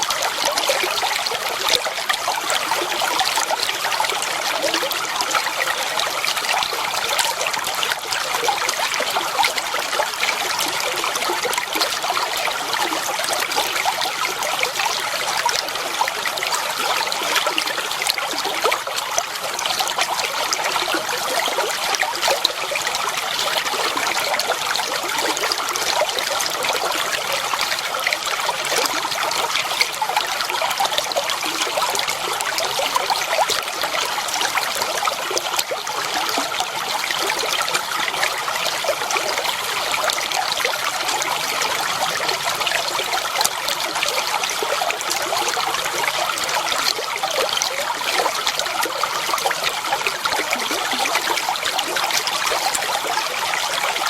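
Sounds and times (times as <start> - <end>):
water babbling over stones: 0.0 - 54.0.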